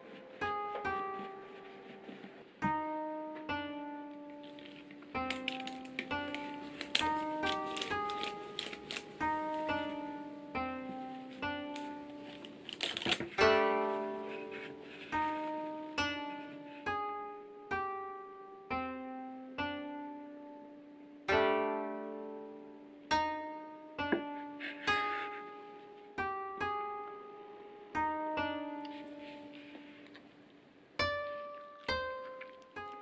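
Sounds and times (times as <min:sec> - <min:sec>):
plucked string instrument: 0:00.0 - 0:33.0.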